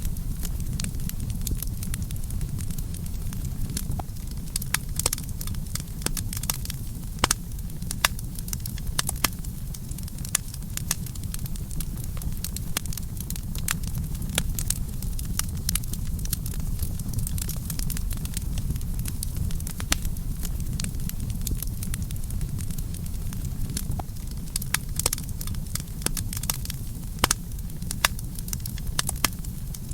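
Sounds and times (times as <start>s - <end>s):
campfire flames rumbling: 0.0s - 29.9s
wood crackling and popping: 0.0s - 29.9s.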